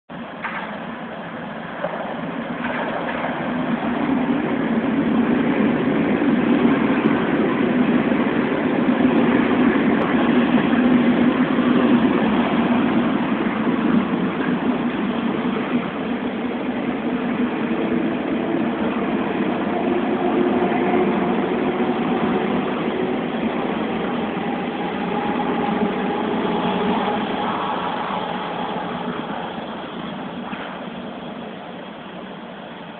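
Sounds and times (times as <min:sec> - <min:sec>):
electric train rumbling: 0:00.1 - 0:32.9.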